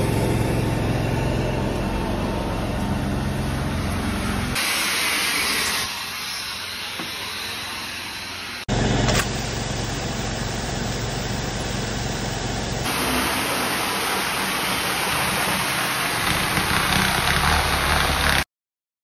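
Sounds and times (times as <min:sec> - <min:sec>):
extraction machine running: 0:00.0 - 0:18.4.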